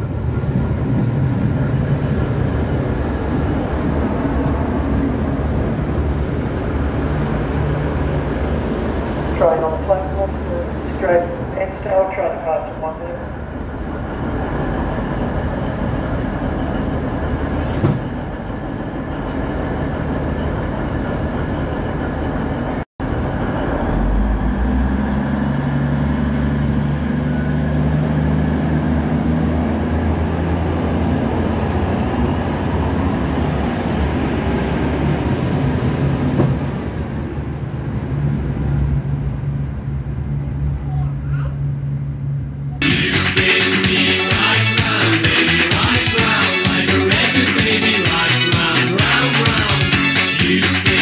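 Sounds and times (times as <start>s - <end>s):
diesel train engine drone: 0.0s - 51.0s
train wheel and rail noise: 0.0s - 51.0s.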